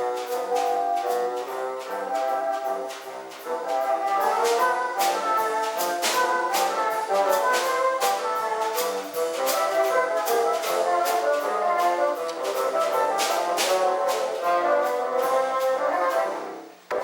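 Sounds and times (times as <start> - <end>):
wind ensemble music: 0.0 - 17.0.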